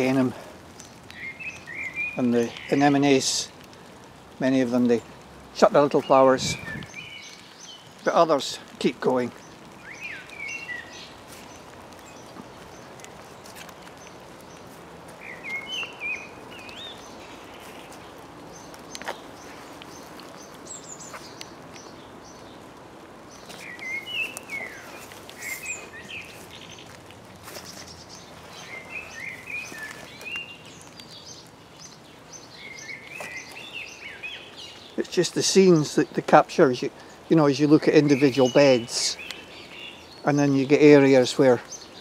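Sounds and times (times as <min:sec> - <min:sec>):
blackbird singing: 0:00.0 - 0:03.5, 0:04.4 - 0:22.6, 0:23.3 - 0:42.0
light rain hiss: 0:00.0 - 0:42.0.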